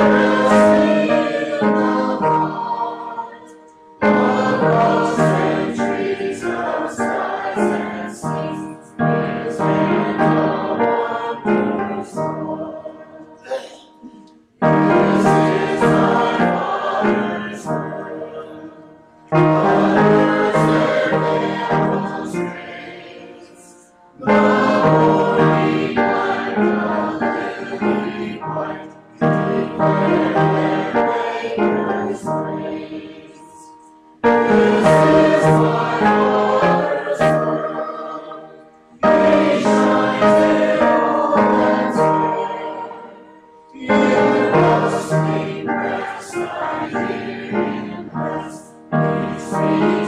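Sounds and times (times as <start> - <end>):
choir singing sacred music: 0.0 - 50.0.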